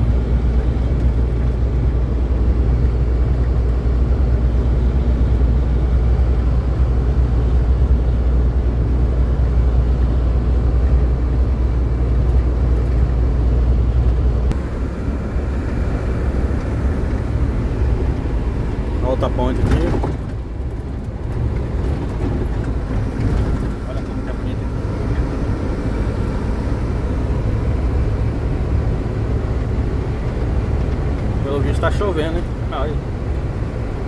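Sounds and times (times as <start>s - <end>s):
vehicle engine and tyre rumble: 0.0s - 34.0s.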